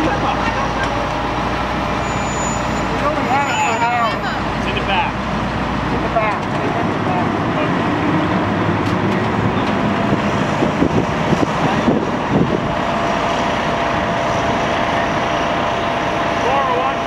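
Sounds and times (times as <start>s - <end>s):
fire engine engine running: 0.0s - 17.0s
other vehicle engines: 0.0s - 17.0s.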